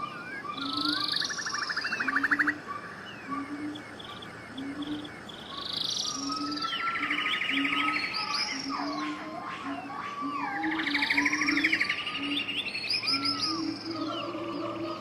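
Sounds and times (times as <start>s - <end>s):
wild birds singing: 0.0s - 15.0s.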